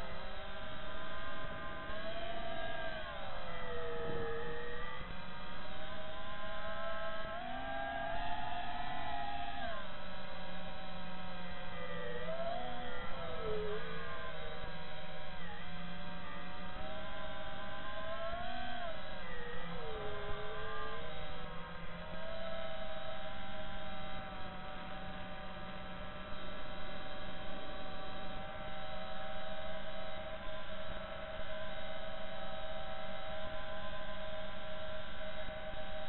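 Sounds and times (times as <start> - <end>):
quadcopter motors whining: 0.0 - 36.0.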